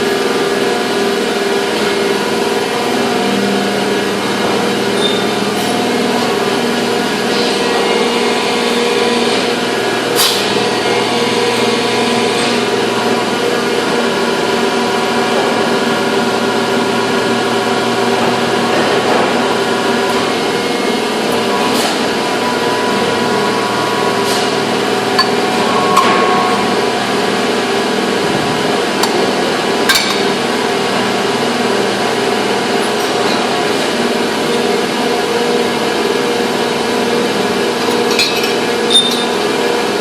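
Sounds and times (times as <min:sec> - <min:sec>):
factory machinery hum: 0:00.0 - 0:40.0.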